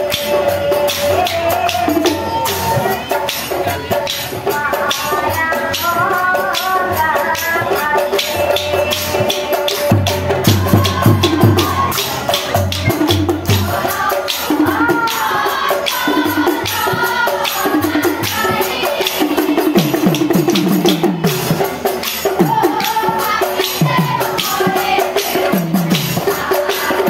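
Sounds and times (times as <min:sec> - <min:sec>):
jingling percussion: 0:00.0 - 0:27.0
lead voice singing: 0:00.0 - 0:27.0
women singing in chorus: 0:00.0 - 0:27.0.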